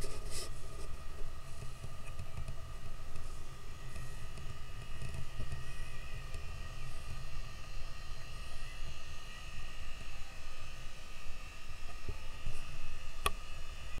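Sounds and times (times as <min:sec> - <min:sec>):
boat machinery hum and whine: 0:00.0 - 0:14.0.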